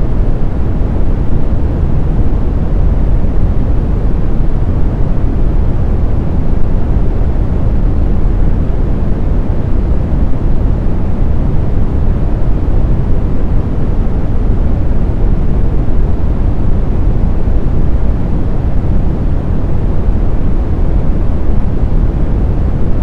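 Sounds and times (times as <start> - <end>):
deep brown noise hiss: 0.0 - 23.0.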